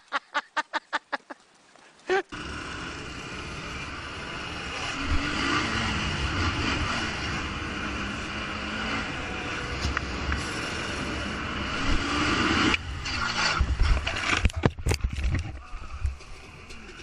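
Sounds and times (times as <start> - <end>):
quad bike engine: 2.3 - 17.0
steady rushing noise: 2.4 - 17.0.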